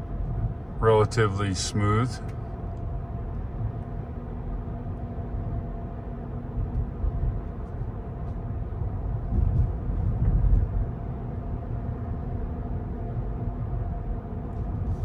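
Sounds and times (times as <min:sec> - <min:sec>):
tire and road rumble: 0:00.0 - 0:15.0.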